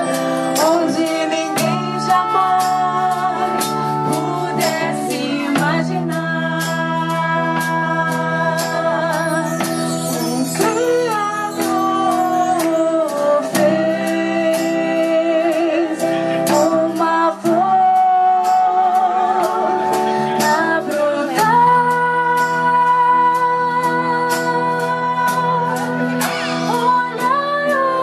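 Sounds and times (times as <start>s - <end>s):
guitars and hand drums: 0.0s - 28.0s
woman singing gospel: 0.0s - 28.0s.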